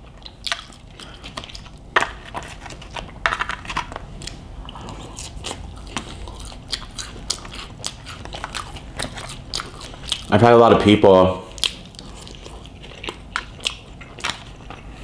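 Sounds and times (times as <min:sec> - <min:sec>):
chewing fries: 0:00.0 - 0:15.0.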